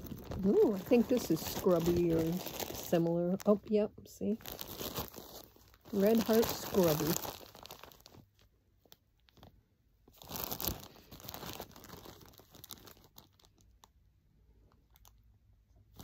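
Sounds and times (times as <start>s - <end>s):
plastic wrapping crinkling: 0.0s - 14.0s, 14.6s - 15.2s.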